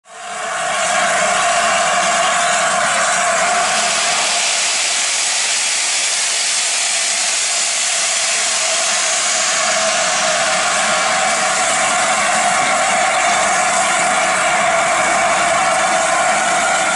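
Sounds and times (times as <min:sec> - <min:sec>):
steam hissing from locomotive: 0:00.1 - 0:16.9.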